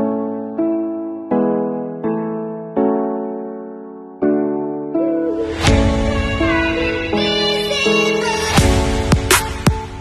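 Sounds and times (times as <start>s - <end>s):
keyboard chords: 0.0s - 10.0s.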